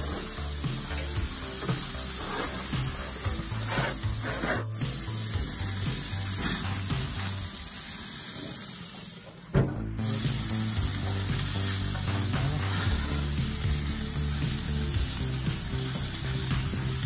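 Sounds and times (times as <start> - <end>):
background music with bass line: 0.0 - 7.7, 9.6 - 17.0
steaks sizzling on a grill: 0.0 - 17.0.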